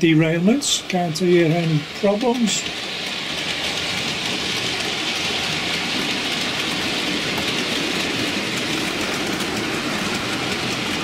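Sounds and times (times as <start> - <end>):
model train wheels rattling on rail: 0.1 - 11.0
ticks at rail joints: 1.4 - 11.0.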